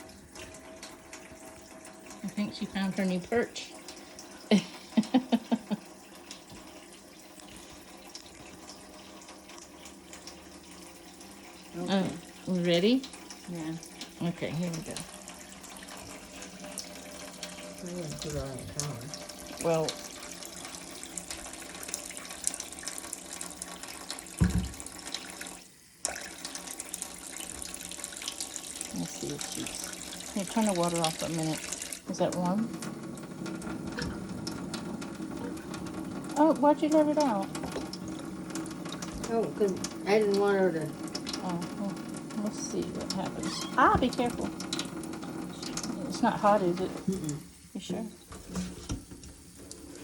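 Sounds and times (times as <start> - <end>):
tap water running into sink: 0.0 - 50.0.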